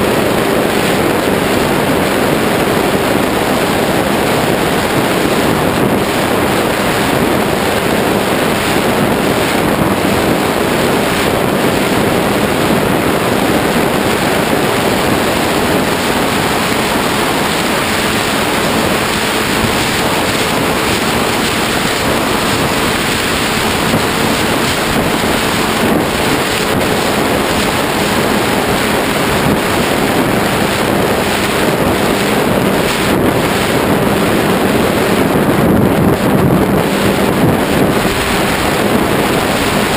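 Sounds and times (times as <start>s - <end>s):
motor and propeller hum: 0.0s - 39.9s
wind rushing over microphone: 0.0s - 39.9s.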